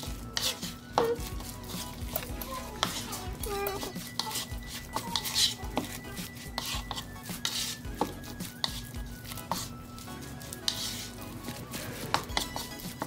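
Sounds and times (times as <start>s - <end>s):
quiet background music: 0.0s - 13.0s
utensil clinking against cookware: 0.0s - 13.0s.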